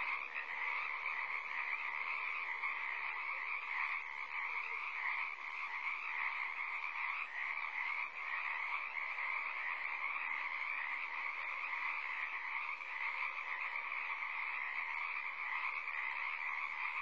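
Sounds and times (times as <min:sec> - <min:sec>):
frogs chorus calling: 0:00.0 - 0:17.0.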